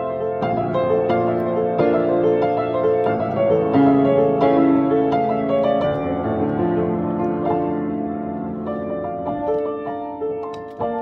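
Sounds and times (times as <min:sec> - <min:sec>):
solo piano playing: 0:00.0 - 0:11.0.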